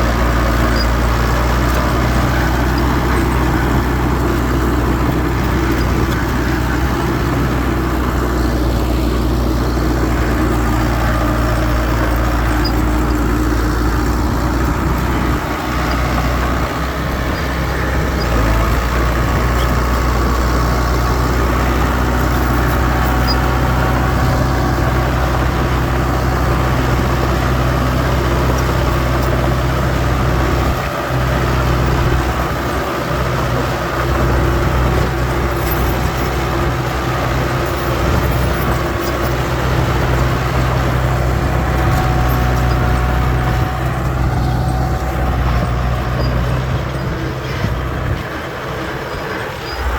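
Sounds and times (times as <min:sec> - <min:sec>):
heavy machinery diesel engine: 0:00.0 - 0:49.9.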